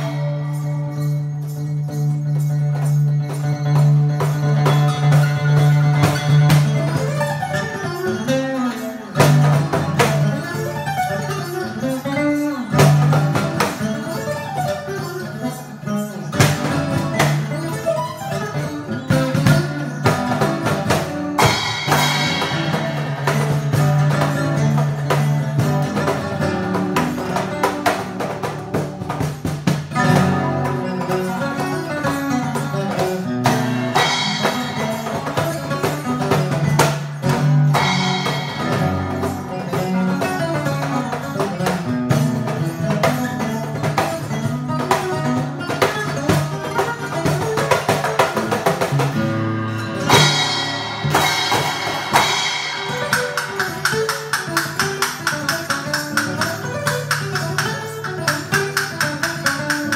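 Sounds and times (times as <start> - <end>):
cajon beat: 0.0 - 59.9
fingerstyle acoustic guitar: 0.0 - 59.9.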